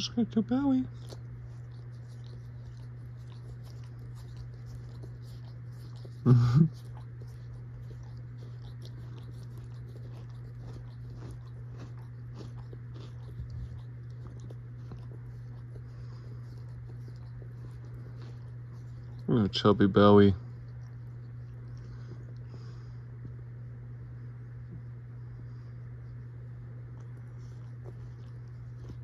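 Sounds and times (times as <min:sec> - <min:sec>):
steady low hum: 0:00.0 - 0:29.0
wet licking and chewing clicks: 0:00.9 - 0:23.4, 0:26.1 - 0:29.0.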